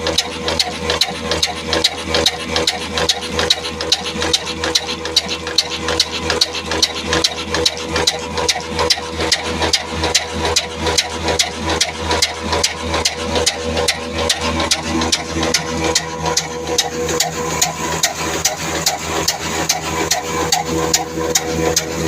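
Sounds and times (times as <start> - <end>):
diesel engine knocking steadily: 0.0 - 22.0.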